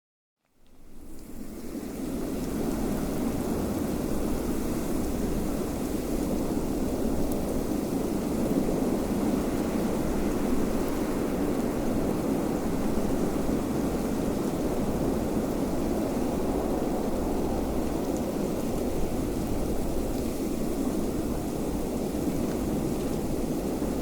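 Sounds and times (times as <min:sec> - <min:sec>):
wind blowing steadily: 0:00.8 - 0:24.0.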